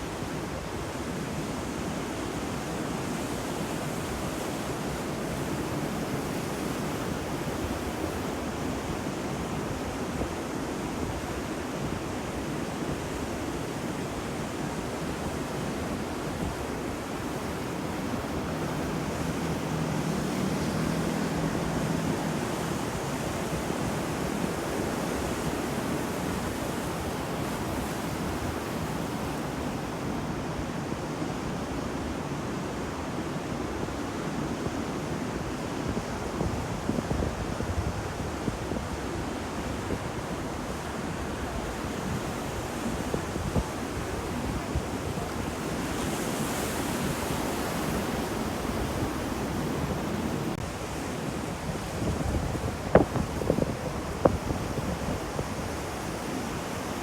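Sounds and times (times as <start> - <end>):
ocean waves on shore: 0.0 - 57.0.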